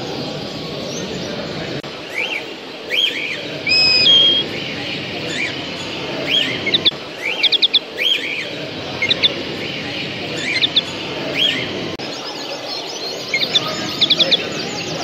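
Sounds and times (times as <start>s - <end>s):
caged birds chirping: 0.0s - 15.0s
murmur of hall noise: 0.0s - 15.0s.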